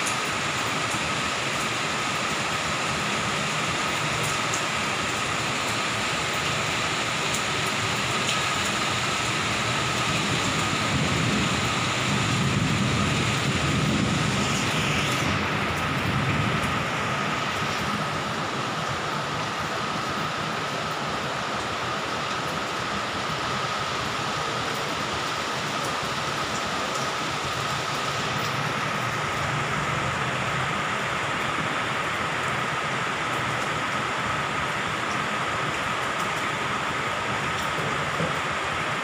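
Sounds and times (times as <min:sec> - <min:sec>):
heavy rain hissing: 0:00.0 - 0:39.0.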